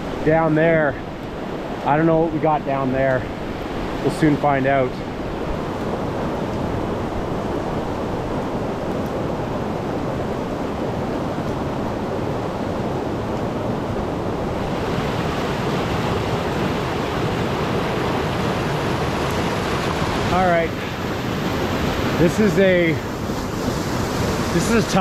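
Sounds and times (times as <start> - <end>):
river rapid rushing over rocks: 2.8 - 25.0.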